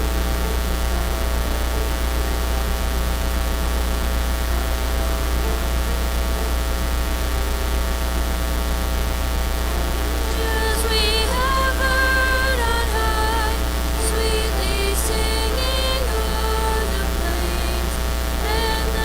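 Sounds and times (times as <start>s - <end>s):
electrical mains hum: 0.0s - 19.0s
music: 0.0s - 19.0s.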